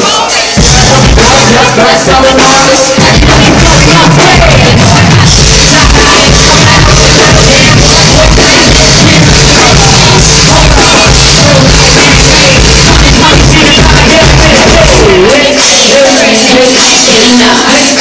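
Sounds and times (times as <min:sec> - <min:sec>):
hip-hop music with heavy bass: 0:00.0 - 0:18.0.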